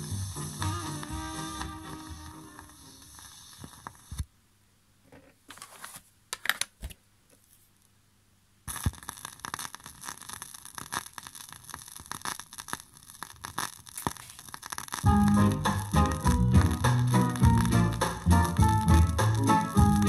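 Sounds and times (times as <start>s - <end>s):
vinyl surface crackle and pops: 0.0s - 4.3s, 5.5s - 7.5s, 8.7s - 20.0s.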